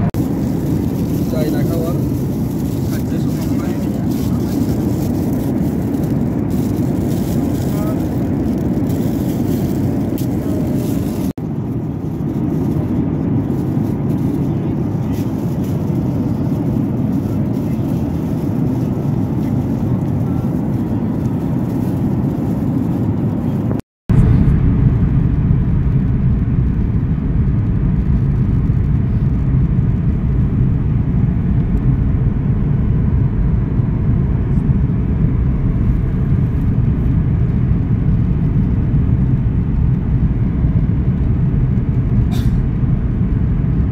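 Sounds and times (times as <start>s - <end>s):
low rumble inside vehicle: 0.0s - 43.9s.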